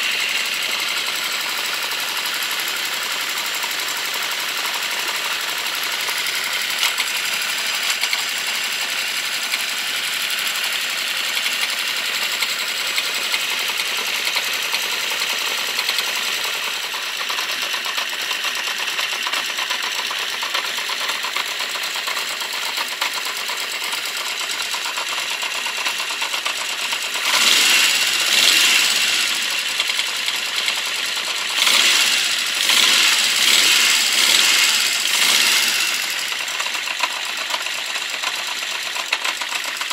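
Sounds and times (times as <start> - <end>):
fast steady ticking: 0.0 - 39.9
motorcycle engine idling: 0.0 - 39.9.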